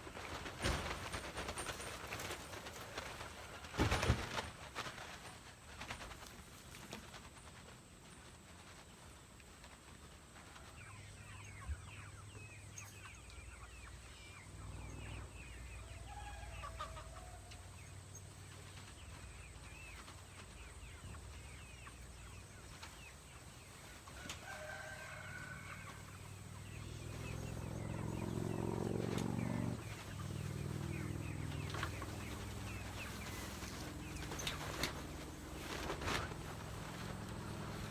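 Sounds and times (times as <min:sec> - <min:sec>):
chickens clucking and peeping: 0:00.0 - 0:37.9.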